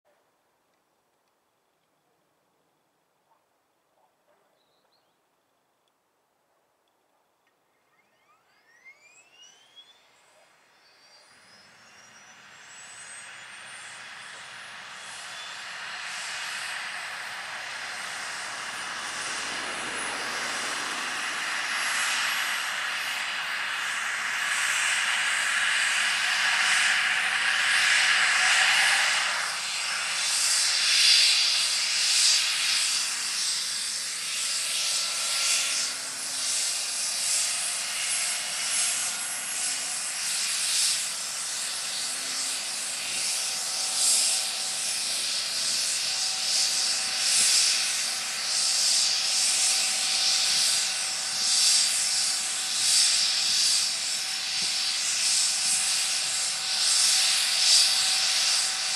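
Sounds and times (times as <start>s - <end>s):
helicopter turbine engines running up: 7.3s - 58.9s
helicopter rotor swishing: 8.0s - 58.9s.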